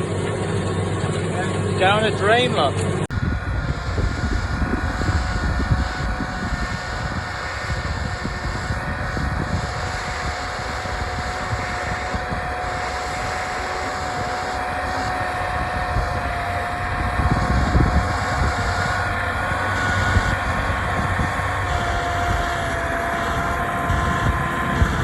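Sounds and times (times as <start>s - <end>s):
tractor engine running under load: 0.0s - 25.0s.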